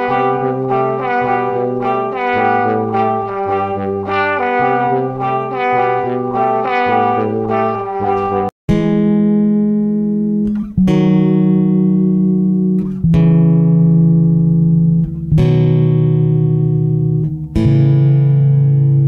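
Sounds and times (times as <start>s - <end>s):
plucked string chords: 0.0s - 19.0s.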